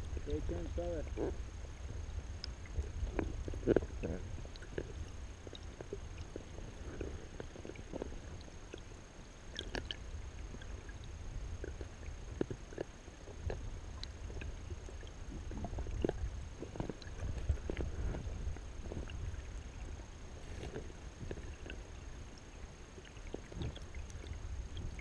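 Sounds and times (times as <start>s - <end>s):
muffled river water rumble: 0.0s - 25.0s.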